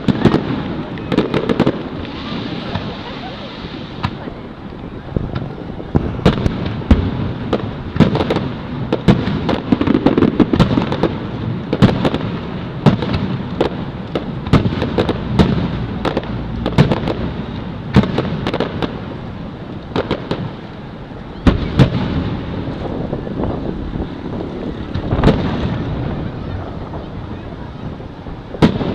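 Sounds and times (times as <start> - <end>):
distant booms rumbling: 0.0 - 28.9
loud firework bangs: 0.0 - 28.9.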